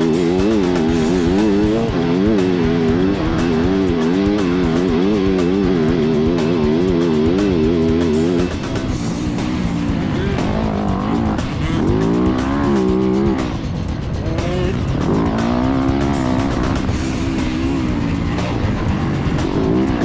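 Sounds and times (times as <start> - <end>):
dirt bike engine revving: 0.0 - 20.0
music: 0.0 - 20.0.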